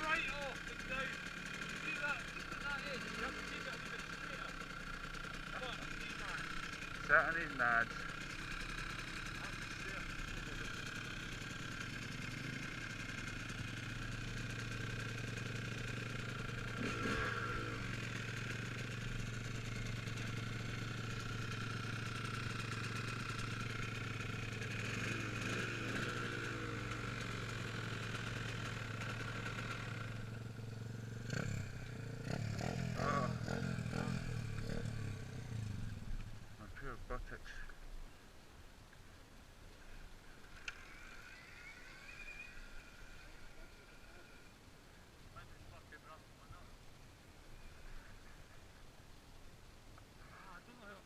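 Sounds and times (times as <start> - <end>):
dirt bike engine running: 0.0 - 37.6, 39.8 - 44.7.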